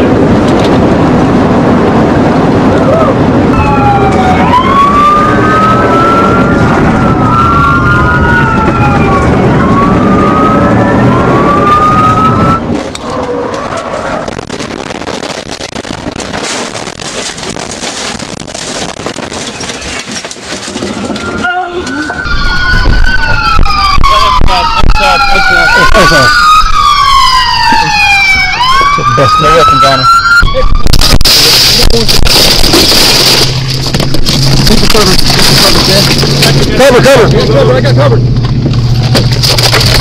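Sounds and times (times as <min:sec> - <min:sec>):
road and engine rumble: 0:00.0 - 0:40.0
police sirens wailing: 0:00.1 - 0:15.0, 0:20.7 - 0:40.0.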